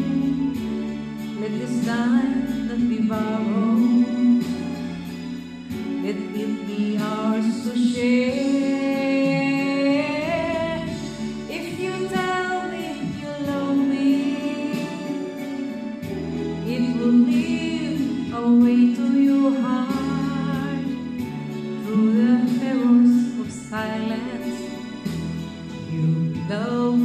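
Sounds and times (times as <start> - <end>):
backing track with steady beat: 0.0 - 27.0
woman singing into microphone: 0.0 - 27.0.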